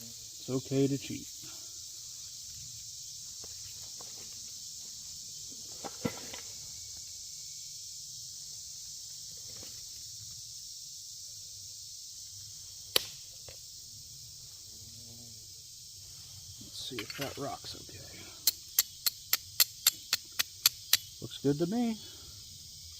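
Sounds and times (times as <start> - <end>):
high-pitched insect chorus: 0.0 - 22.9.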